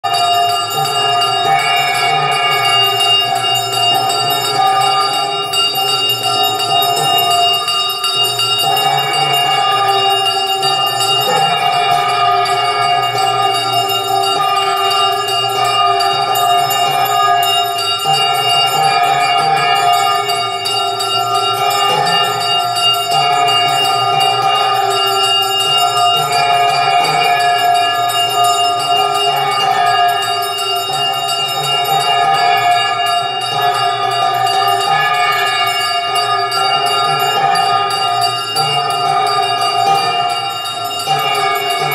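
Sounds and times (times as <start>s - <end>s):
temple bell ringing: 0.0s - 41.9s.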